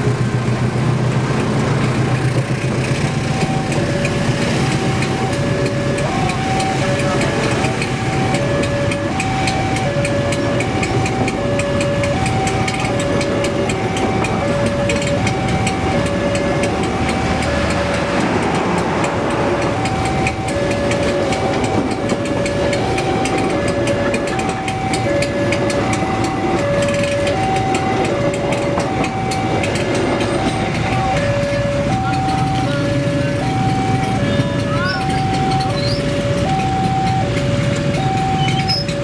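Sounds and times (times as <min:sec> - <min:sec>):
train wheels rumbling and clicking: 0:00.0 - 0:39.0
level crossing warning alarm: 0:01.8 - 0:39.0.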